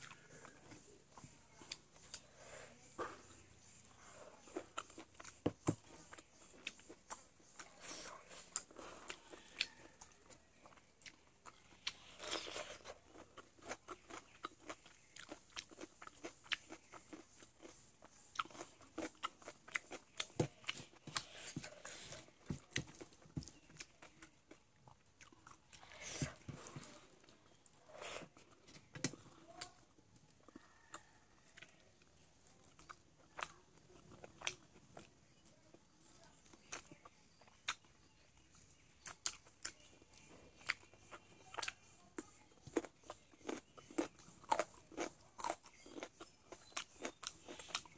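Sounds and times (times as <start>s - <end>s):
person chewing and crunching: 3.0s - 35.4s, 39.0s - 47.9s.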